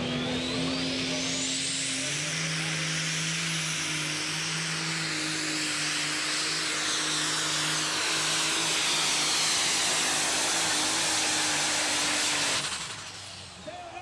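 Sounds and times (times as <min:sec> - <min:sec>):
diesel engine running under load: 0:00.0 - 0:14.0.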